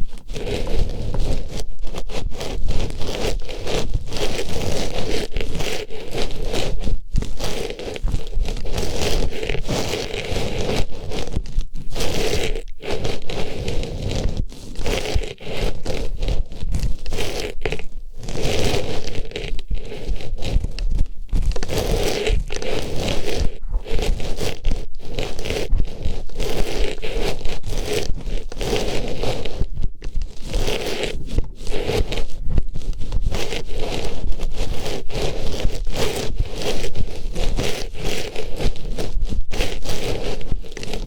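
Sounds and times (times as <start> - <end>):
rustling and scraping on microphone: 0.0 - 41.0.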